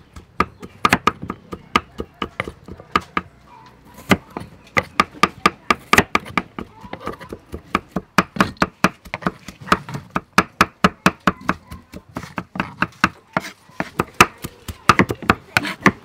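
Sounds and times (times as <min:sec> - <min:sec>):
cleaver chopping on wooden block: 0:00.0 - 0:03.3, 0:04.0 - 0:16.0.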